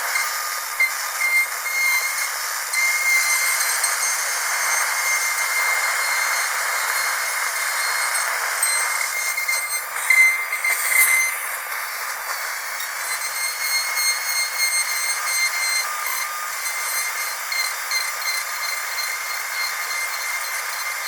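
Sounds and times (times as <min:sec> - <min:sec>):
dentist's drill whining: 0:00.0 - 0:21.0.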